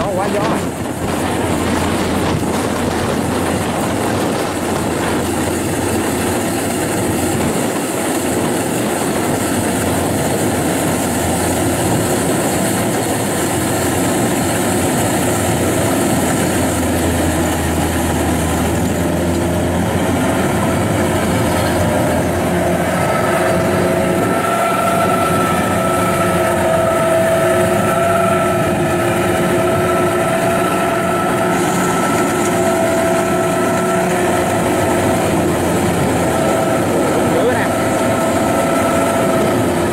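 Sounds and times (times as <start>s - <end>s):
combine harvester mechanical din: 0.0s - 39.9s
steady whine: 0.0s - 39.9s.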